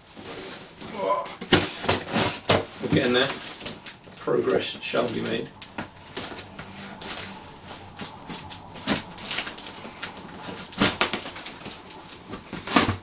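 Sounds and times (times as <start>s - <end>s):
tape and cardboard rustling: 0.0s - 13.0s.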